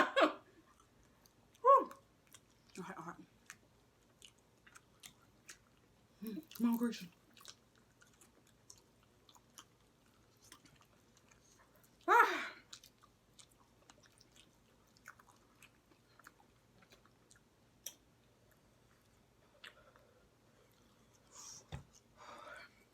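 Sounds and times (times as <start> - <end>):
chewing chicken: 0.5 - 22.2.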